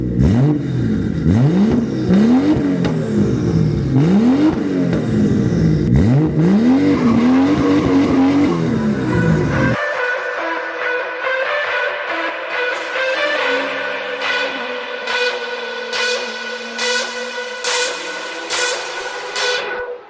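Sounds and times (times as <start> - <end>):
car engine revving: 0.0 - 9.8, 13.2 - 19.7.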